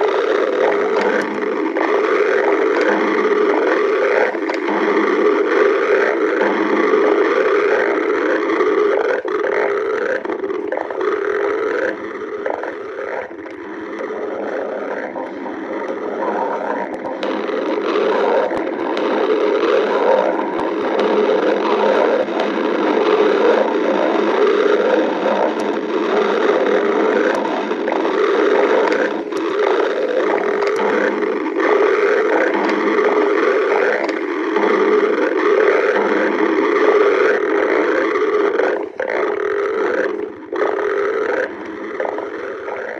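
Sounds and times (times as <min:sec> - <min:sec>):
stomach growling: 0:00.0 - 0:42.9.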